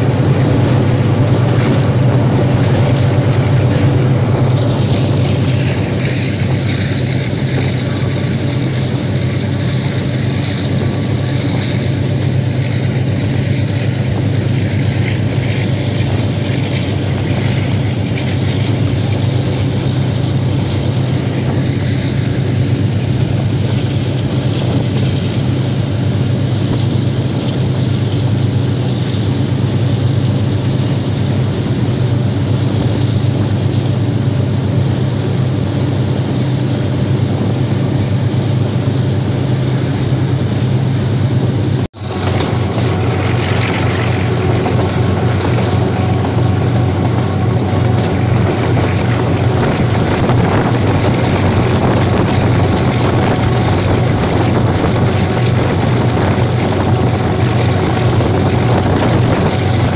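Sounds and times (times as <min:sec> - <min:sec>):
locomotive engine droning: 0:00.0 - 0:59.9
rush of moving train: 0:00.0 - 0:59.9.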